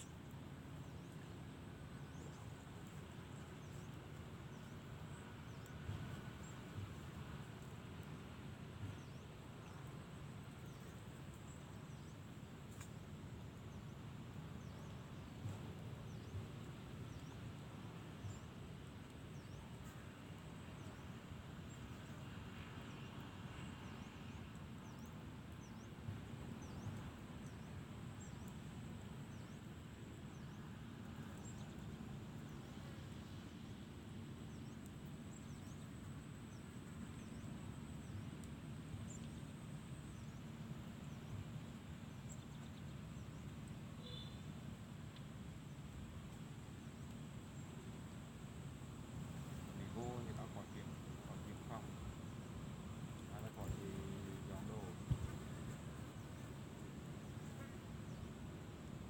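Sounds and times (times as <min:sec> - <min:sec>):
thin steady high whine: 0:00.0 - 0:59.0.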